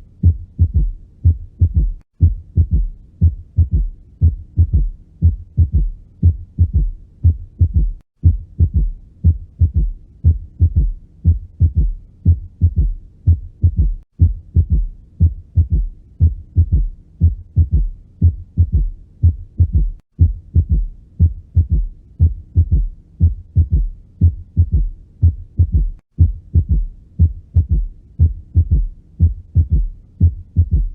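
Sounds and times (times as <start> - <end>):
heartbeat thuds through stethoscope: 0.2 - 30.9.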